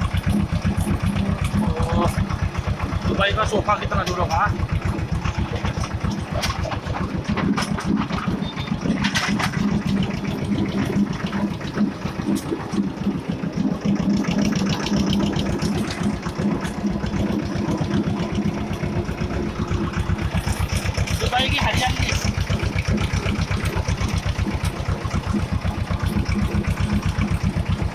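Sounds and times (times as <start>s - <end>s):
diesel tractor engine chugging: 0.0s - 27.9s.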